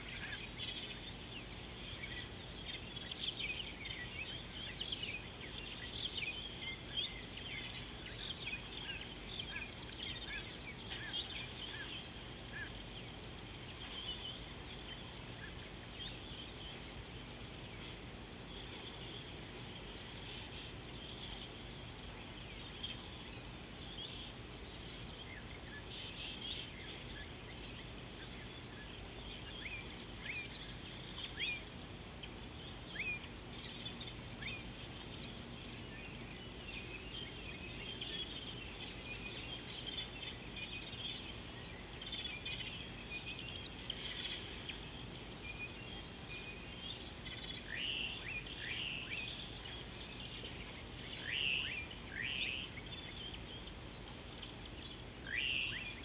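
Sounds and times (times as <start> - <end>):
birds chirping: 0.0 - 56.0
outdoor background hiss: 0.0 - 56.0.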